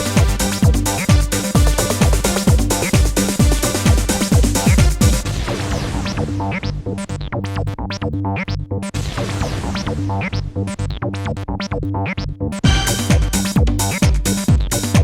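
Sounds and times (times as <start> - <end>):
electronic music with synthesizer: 0.0 - 15.0.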